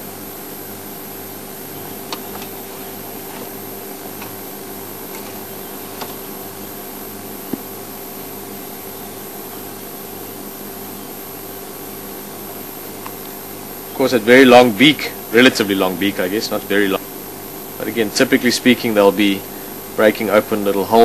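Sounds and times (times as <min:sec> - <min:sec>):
low mechanical hum: 0:00.0 - 0:21.0
steady hiss: 0:00.0 - 0:21.0.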